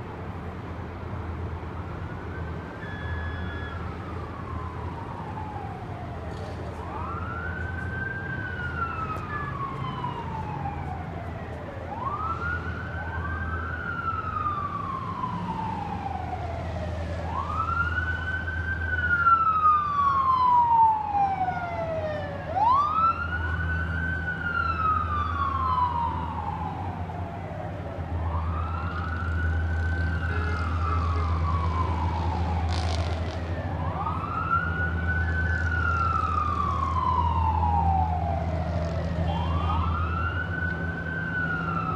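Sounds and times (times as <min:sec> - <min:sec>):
emergency vehicle siren wailing: 0:00.4 - 0:41.9
second siren: 0:01.9 - 0:41.9.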